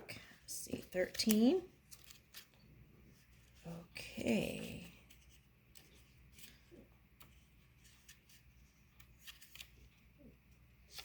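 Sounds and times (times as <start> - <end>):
paper rustling: 0.7 - 11.0.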